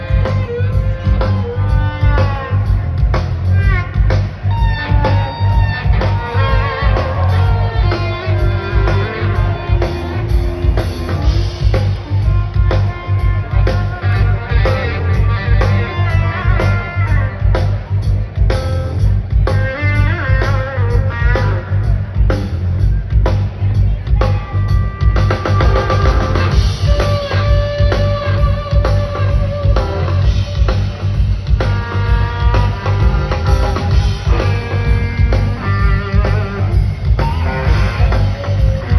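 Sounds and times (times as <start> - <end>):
bass guitar: 0.0 - 38.9
drum kit: 0.0 - 38.9
electric guitar lead: 0.0 - 38.9.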